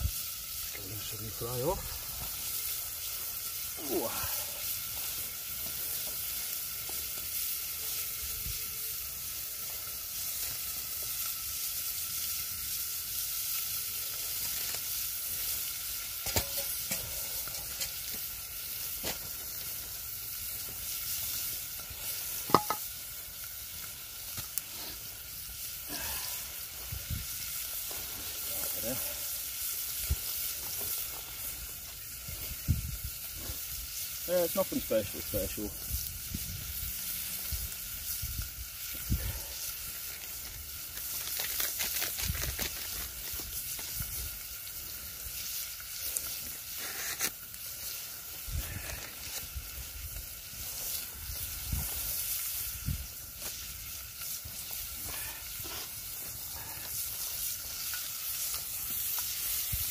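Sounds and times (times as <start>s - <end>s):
meat sizzling in a pot: 0.0s - 59.9s
sharp pops and crackles: 0.0s - 59.9s.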